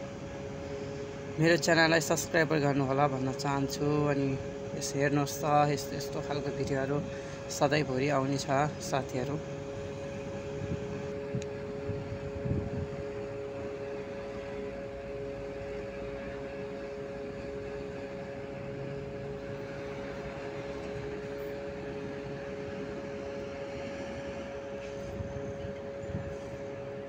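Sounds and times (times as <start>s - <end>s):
road traffic: 0.0s - 27.0s
two-note mechanical hum: 0.0s - 27.0s.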